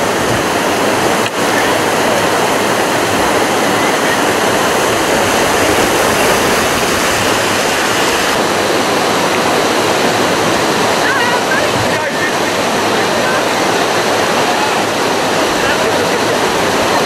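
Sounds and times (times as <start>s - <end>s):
water rushing over rapids: 0.0s - 17.0s.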